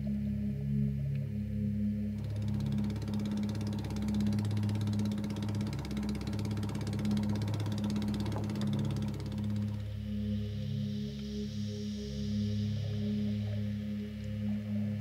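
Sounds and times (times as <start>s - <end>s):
soft background music: 0.0s - 15.0s
small boat engine running: 1.8s - 15.0s.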